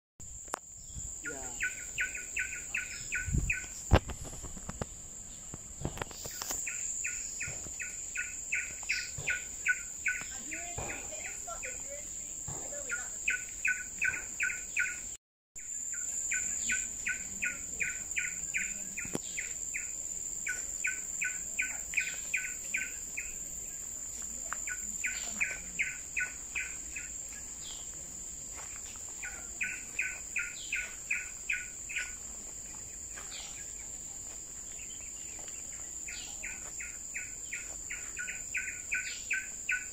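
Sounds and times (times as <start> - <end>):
high insect whine: 0.3 - 39.9.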